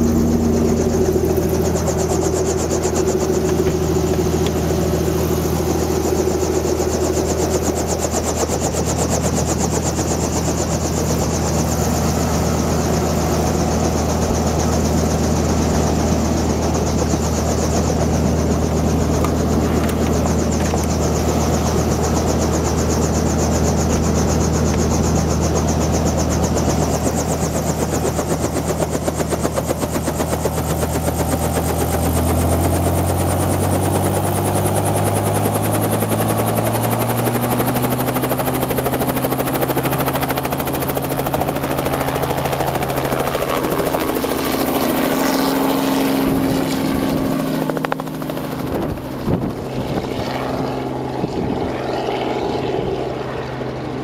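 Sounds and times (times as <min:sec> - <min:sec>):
helicopter engine: 0:00.0 - 0:54.0
helicopter rotor beat: 0:00.0 - 0:54.0.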